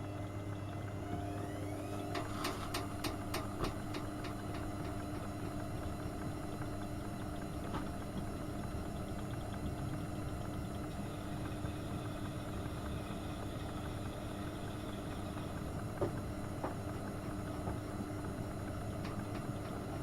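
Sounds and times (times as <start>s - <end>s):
washing machine motor hum: 0.0s - 20.0s
washing machine rising whine: 0.0s - 20.0s.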